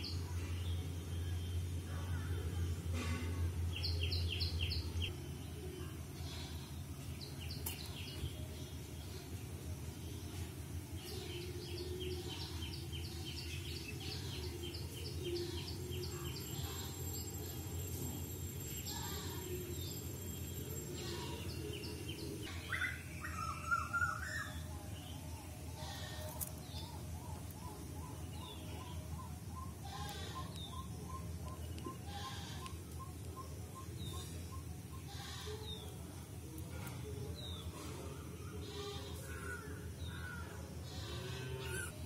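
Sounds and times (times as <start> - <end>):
birds chirping: 3.7 - 42.0.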